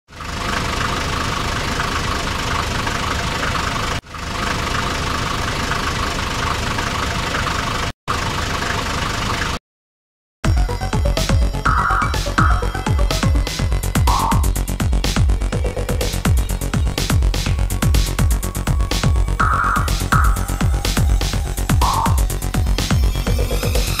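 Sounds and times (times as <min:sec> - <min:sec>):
tractor engine idling: 0:00.1 - 0:09.6, 0:10.5 - 0:24.0.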